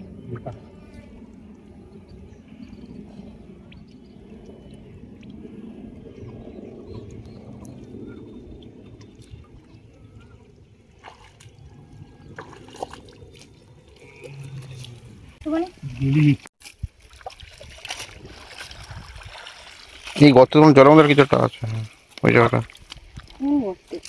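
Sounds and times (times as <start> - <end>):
water sloshing and trickling: 0.0 - 24.0.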